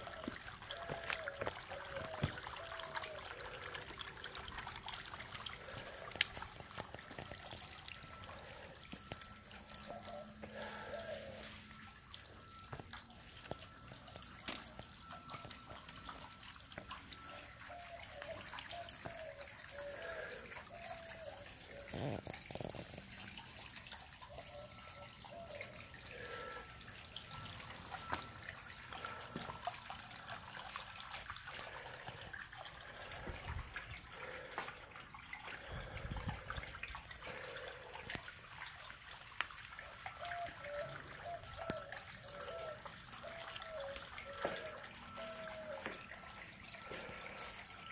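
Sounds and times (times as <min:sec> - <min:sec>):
water drips and splashes: 0:00.0 - 0:47.9
water trickling over stone: 0:00.0 - 0:47.9.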